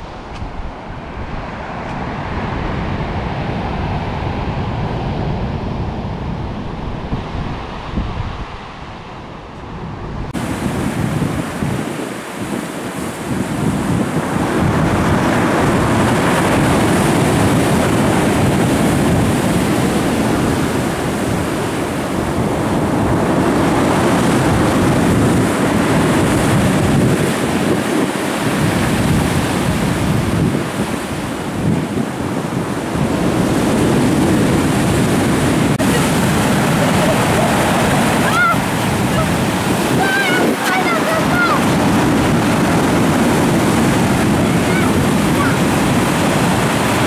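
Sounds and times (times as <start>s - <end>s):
waves breaking: 0.0s - 47.0s
wind buffeting microphone: 0.0s - 47.0s.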